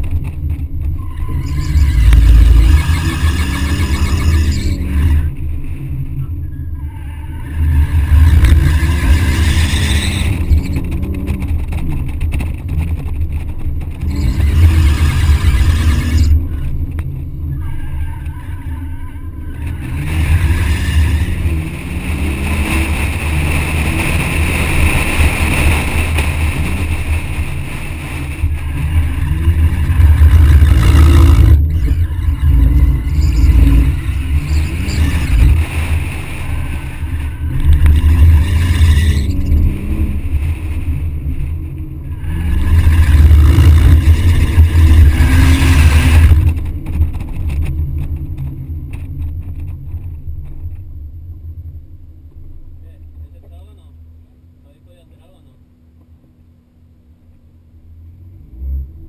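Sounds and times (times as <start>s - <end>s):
wind rumble on microphone: 0.0s - 54.2s
car engine revving: 0.0s - 59.0s.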